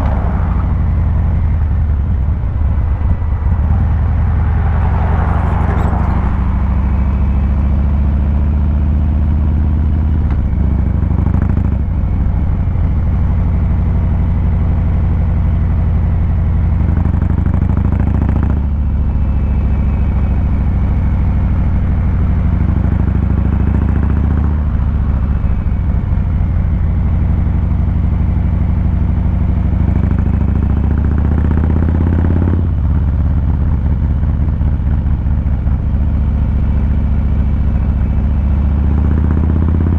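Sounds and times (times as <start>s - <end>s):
motorcycle exhaust rumble: 0.0s - 39.9s.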